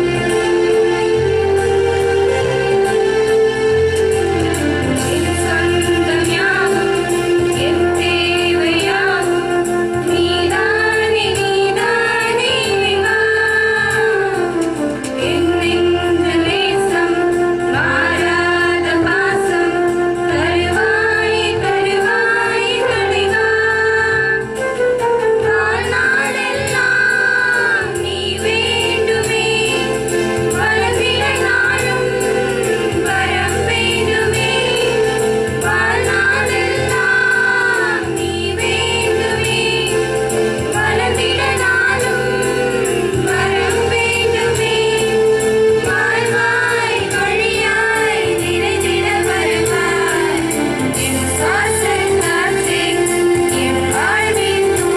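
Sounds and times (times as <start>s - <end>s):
women singing into microphone: 0.0s - 54.9s.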